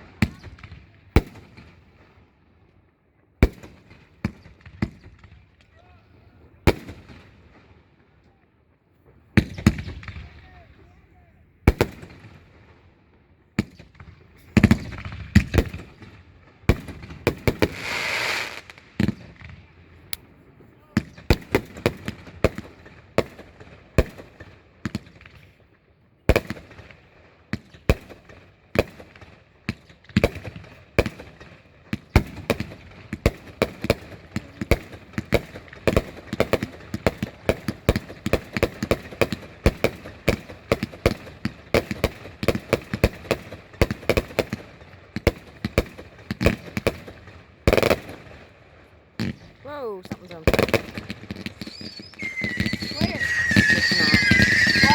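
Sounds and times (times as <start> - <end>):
fireworks bangs and crackling: 0.0 - 2.4, 3.4 - 8.1, 9.0 - 10.9, 11.6 - 54.9.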